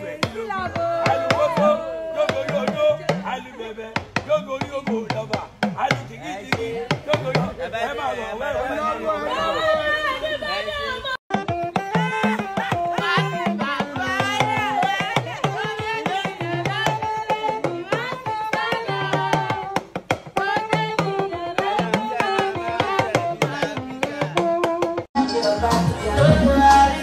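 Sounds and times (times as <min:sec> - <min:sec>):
song with sung melody: 0:00.0 - 0:07.6, 0:11.3 - 0:27.0
steady drum beat: 0:00.0 - 0:07.8, 0:11.3 - 0:27.0.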